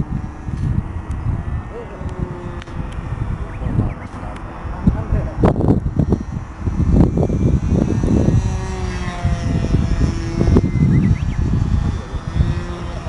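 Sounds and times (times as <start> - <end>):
model airplane engine buzzing: 0.0 - 13.0
wind rumble on microphone: 0.0 - 13.0.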